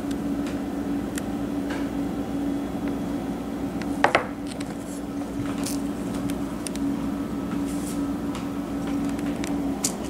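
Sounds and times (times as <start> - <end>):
low appliance hum: 0.0 - 10.0.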